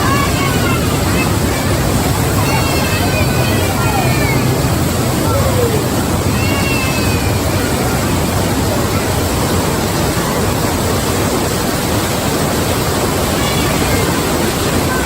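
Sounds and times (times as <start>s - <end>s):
rushing floodwater: 0.0s - 15.0s.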